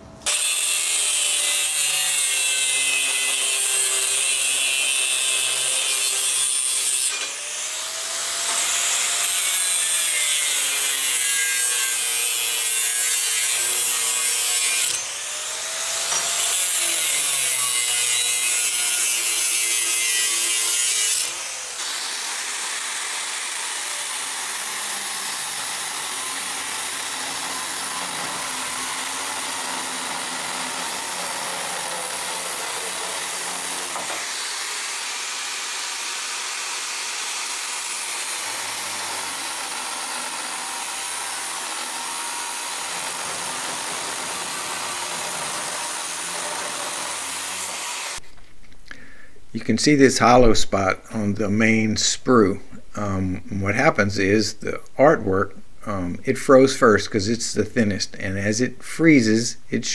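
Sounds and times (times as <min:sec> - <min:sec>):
angle grinder cutting metal: 0:00.2 - 0:48.3.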